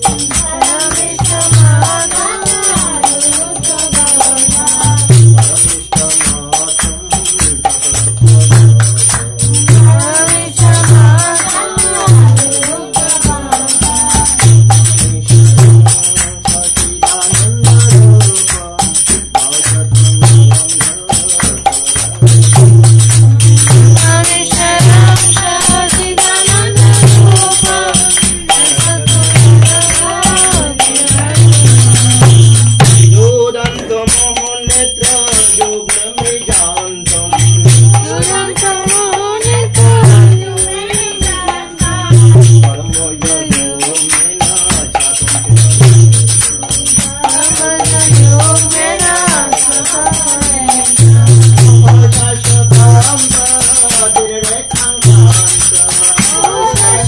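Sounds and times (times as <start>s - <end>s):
jingling percussion: 0.0s - 57.0s
voices singing a hymn: 0.0s - 57.0s.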